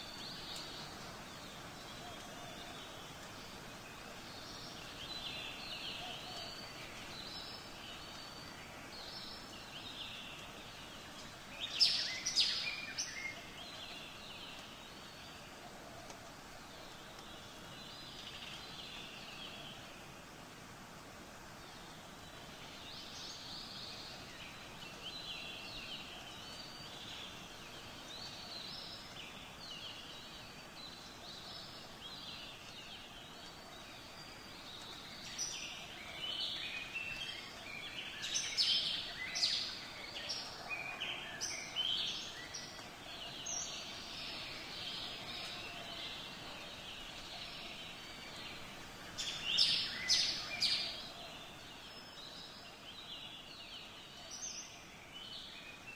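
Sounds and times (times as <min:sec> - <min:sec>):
low steady hiss: 0:00.0 - 0:55.9
small birds chirping: 0:00.0 - 0:55.9.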